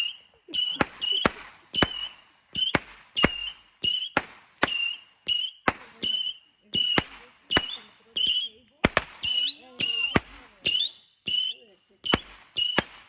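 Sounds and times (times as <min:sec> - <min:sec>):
firework popping and whistling: 0:00.0 - 0:13.0.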